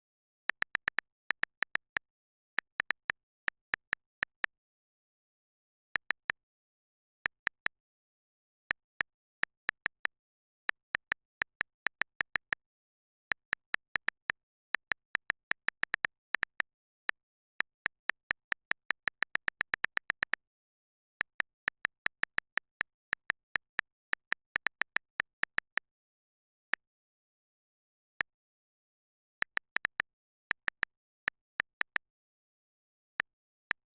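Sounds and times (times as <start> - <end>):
phone keyboard key clicks: 0.1 - 4.6, 6.0 - 25.8, 28.3 - 32.2.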